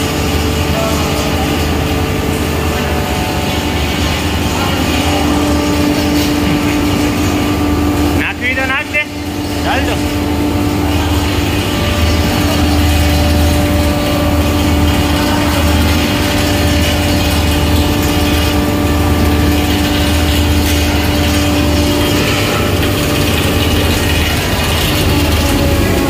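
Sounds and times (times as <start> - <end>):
constant tone: 0.0 - 26.0
hammer mill humming: 0.0 - 26.0.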